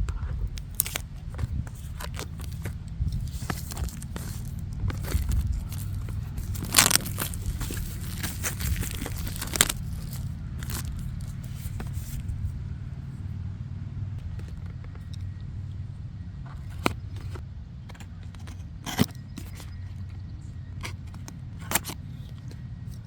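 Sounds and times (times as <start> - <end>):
steady low hum: 0.0 - 23.0
packaging crinkling and scraping: 0.2 - 12.5, 16.5 - 23.0.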